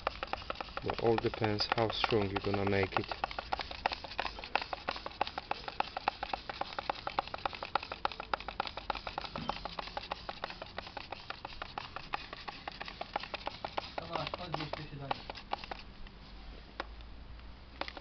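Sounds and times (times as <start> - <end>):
fast regular clicking: 0.0 - 15.9, 17.8 - 18.0.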